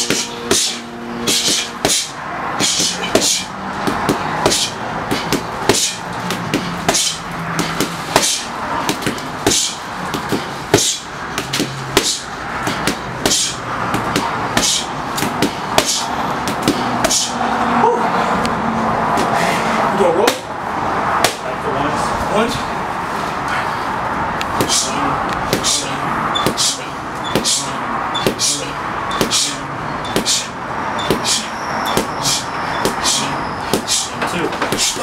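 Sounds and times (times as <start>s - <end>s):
boxing gloves hitting mitts: 0.0s - 17.4s, 19.1s - 19.4s, 20.2s - 20.5s, 21.1s - 21.5s, 24.4s - 35.0s.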